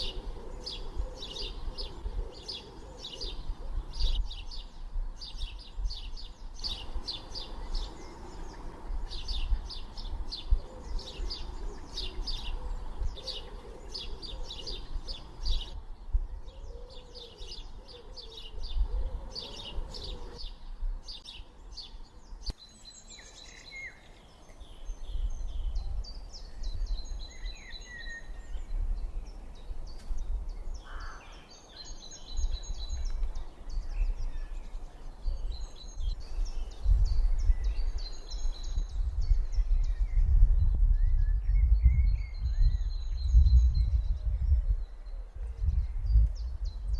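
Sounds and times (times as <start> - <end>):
songbirds singing and chirping: 0.0 - 46.9.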